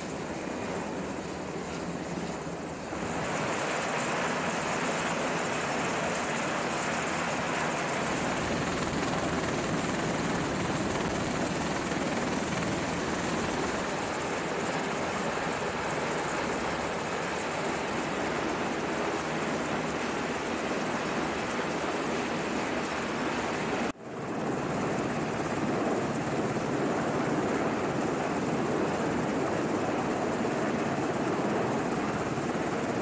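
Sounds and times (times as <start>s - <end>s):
aircraft engine and rotor noise: 0.0s - 33.0s.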